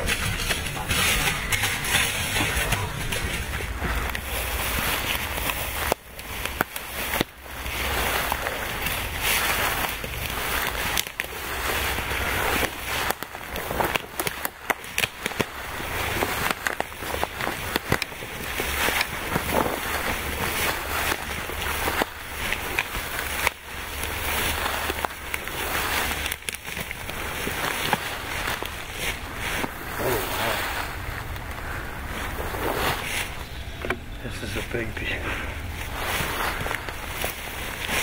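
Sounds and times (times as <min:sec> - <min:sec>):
footsteps through dry grass: 0:00.0 - 0:38.0.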